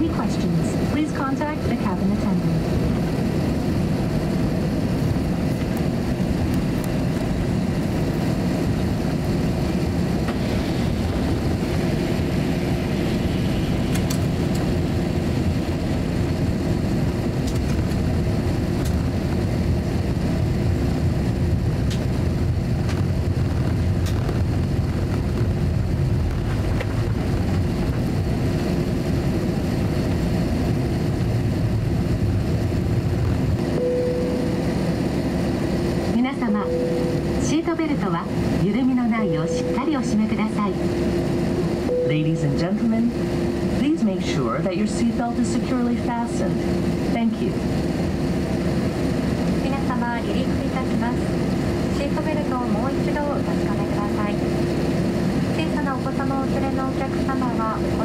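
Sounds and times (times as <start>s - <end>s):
faint steady hum: 0.0s - 58.0s
jet engines idling rumble: 0.0s - 58.0s.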